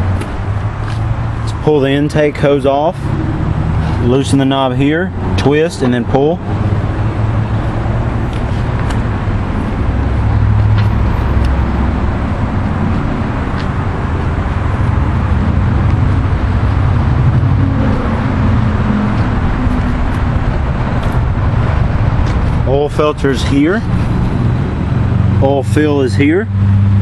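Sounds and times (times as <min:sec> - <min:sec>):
engine droning steadily: 0:00.0 - 0:27.0.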